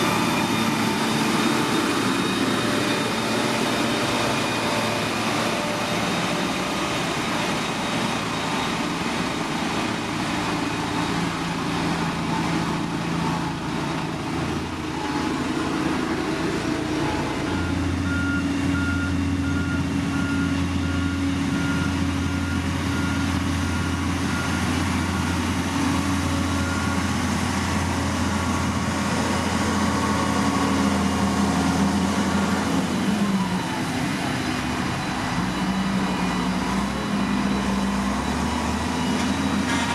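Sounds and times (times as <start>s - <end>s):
deep engine drone: 0.0s - 39.9s
heavy machinery diesel engines running: 0.0s - 39.9s
reversing alarm beeping: 0.0s - 39.9s.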